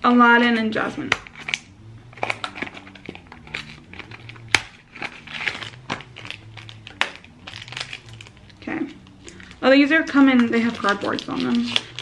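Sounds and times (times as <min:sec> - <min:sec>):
packaging crinkling and tearing: 0:01.1 - 0:09.7, 0:10.3 - 0:12.0.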